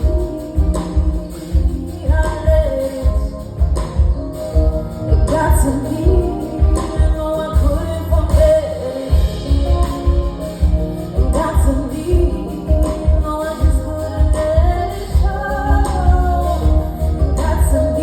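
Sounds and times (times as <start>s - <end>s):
pulsing bass beat: 0.0s - 18.0s
song with lead vocal and band: 0.0s - 18.0s.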